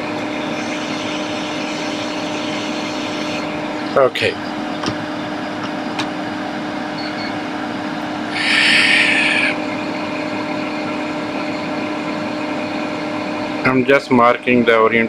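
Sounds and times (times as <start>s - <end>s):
equipment fan hum: 0.0s - 15.0s.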